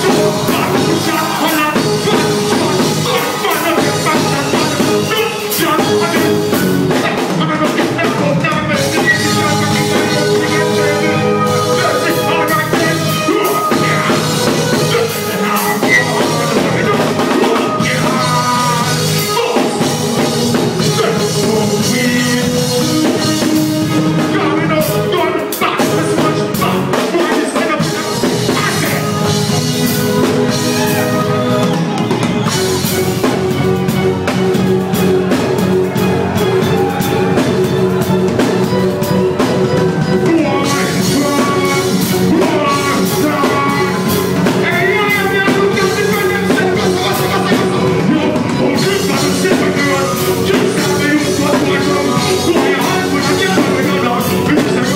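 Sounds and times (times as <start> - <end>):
person singing: 0.0 - 54.9
reggae band playing: 0.0 - 54.9.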